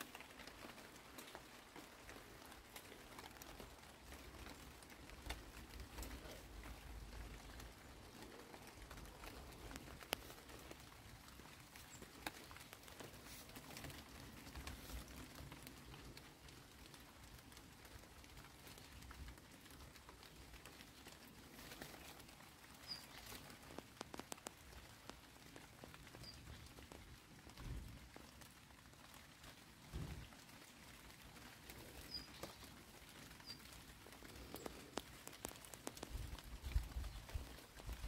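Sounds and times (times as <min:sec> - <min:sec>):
light rain on leaves: 0:00.0 - 0:38.0.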